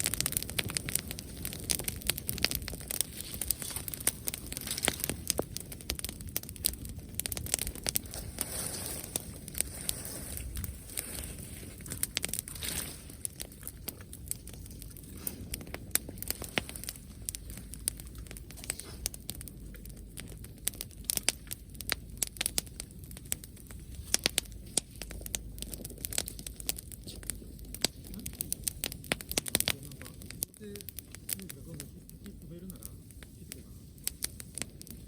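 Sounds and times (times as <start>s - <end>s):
campfire crackling and popping: 0.0s - 35.0s
low steady hiss: 0.0s - 35.0s.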